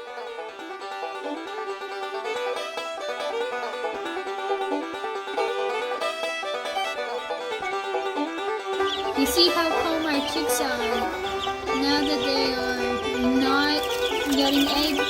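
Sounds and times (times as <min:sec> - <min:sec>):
bluegrass music: 0:00.0 - 0:15.0
plucked banjo: 0:00.0 - 0:15.0.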